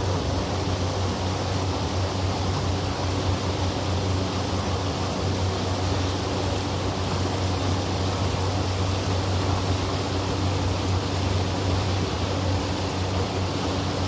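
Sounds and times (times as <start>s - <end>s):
boat motor humming: 0.0s - 14.0s
rushing wind and water: 0.0s - 14.0s.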